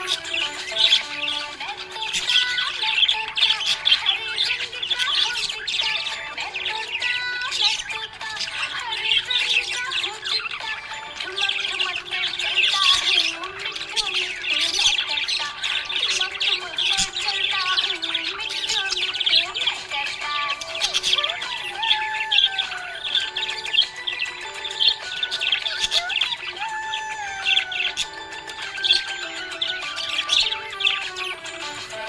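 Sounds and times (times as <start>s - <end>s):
budgerigars chirping: 0.0s - 32.0s.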